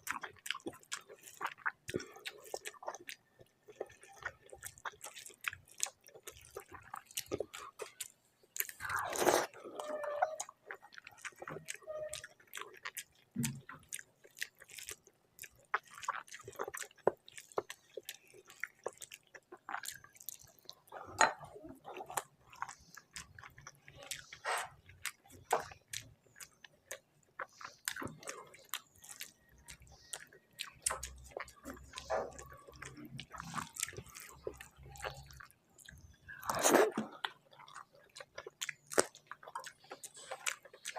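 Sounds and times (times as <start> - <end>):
person chewing and biting: 0.0 - 40.9.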